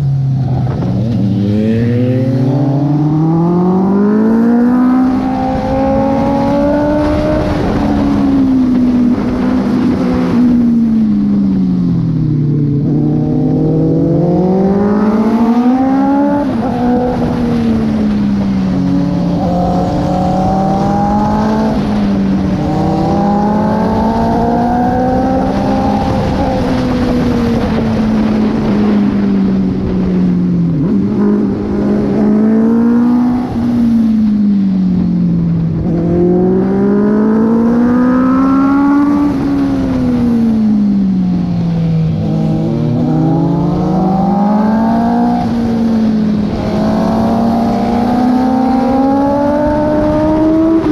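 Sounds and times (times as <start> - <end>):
motorcycle engine revving: 0.0 - 50.9
wind rushing over microphone: 0.1 - 50.9.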